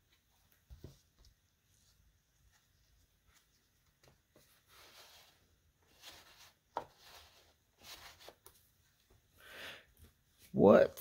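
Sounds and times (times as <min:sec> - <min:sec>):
gloved hands rustling cardboard: 0:00.0 - 0:09.3.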